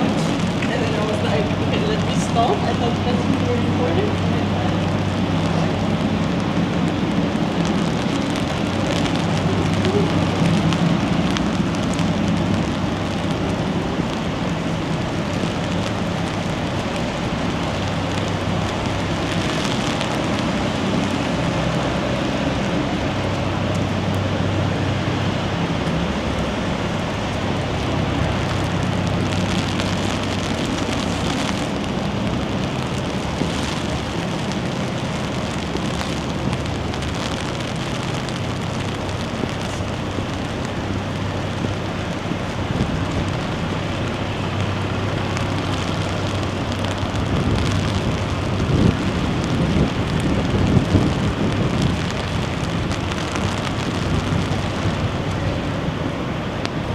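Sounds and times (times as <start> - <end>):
low steady rumble: 0.0 - 56.9
rain on hard surfaces: 0.0 - 56.9.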